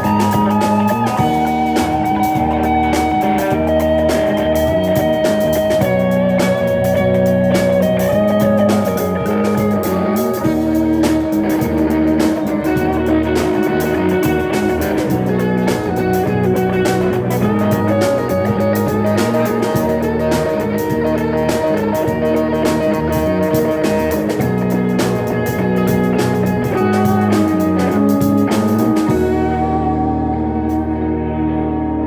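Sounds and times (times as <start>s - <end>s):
drum kit steady beat: 0.0s - 29.8s
bass: 0.0s - 32.0s
guitar: 0.0s - 32.0s.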